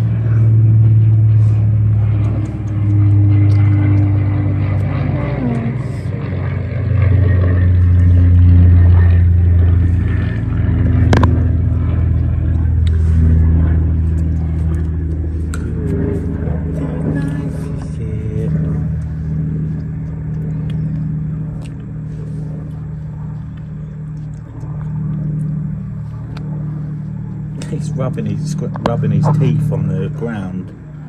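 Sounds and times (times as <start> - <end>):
low engine drone: 0.0 - 31.0.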